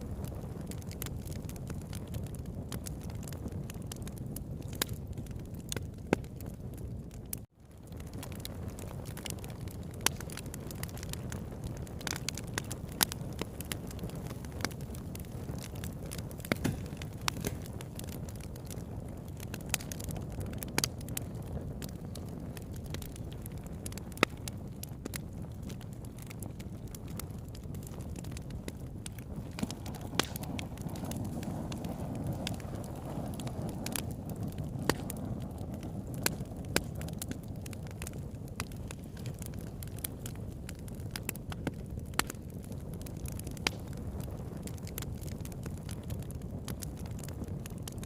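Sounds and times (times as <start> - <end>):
campfire flames rushing: 0.0 - 48.0
wood crackling and popping: 0.0 - 48.0.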